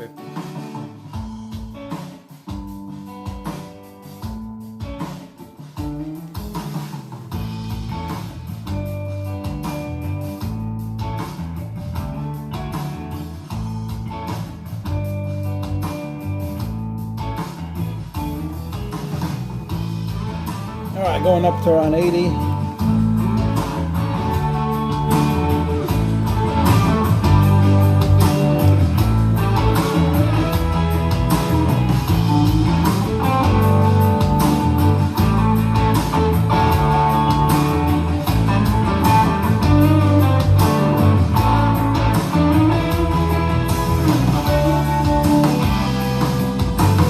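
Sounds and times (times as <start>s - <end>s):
guitar-led music on a speaker: 0.0s - 47.0s.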